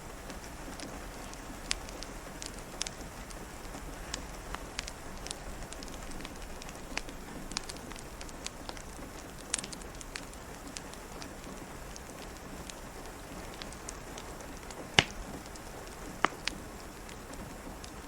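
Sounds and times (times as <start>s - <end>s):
rain hissing: 0.0s - 18.0s
wood fire crackling and popping: 0.0s - 18.0s.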